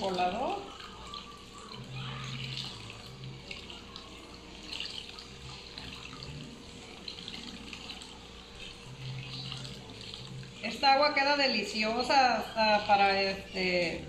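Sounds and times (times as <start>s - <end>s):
liquid trickling through a strainer: 0.0s - 14.0s.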